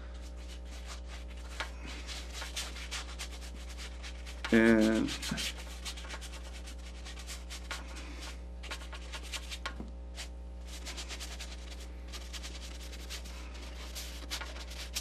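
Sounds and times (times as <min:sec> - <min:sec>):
low electrical hum: 0:00.0 - 0:15.0
paintbrush scrubbing on canvas: 0:00.2 - 0:15.0.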